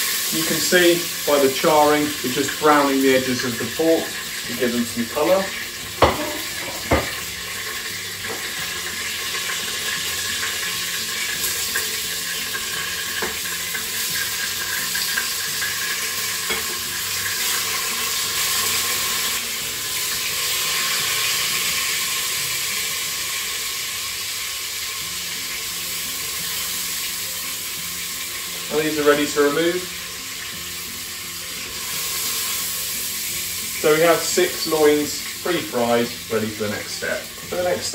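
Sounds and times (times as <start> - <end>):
meat sizzling in hot oil: 0.0 - 37.9.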